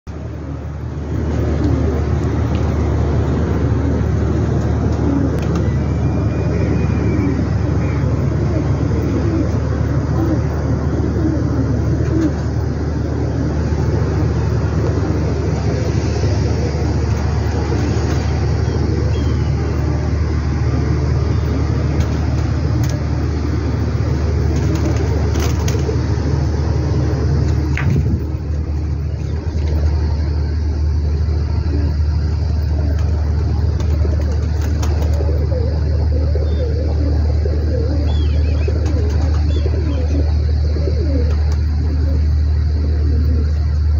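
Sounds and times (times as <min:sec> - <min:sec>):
mechanical hum and rumble: 0:00.0 - 0:43.9.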